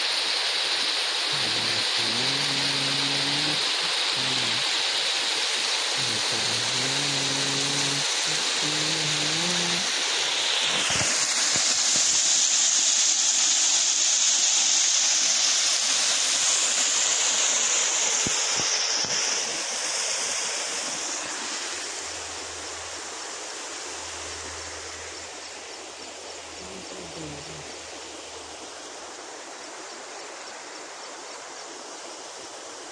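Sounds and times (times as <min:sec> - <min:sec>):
water rushing over stones: 0:00.0 - 0:32.9.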